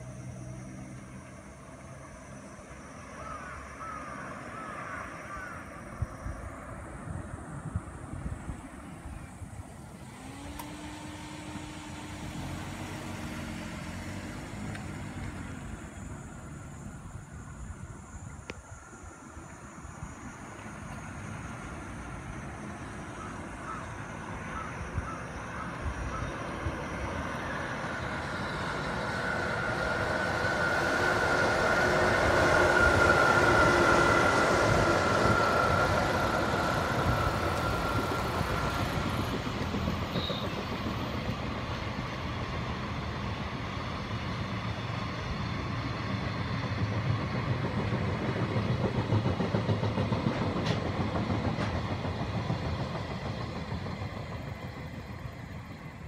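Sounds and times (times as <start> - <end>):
electric locomotive whine: 0.0 - 56.0
freight wagons rumbling on rails: 0.0 - 56.0.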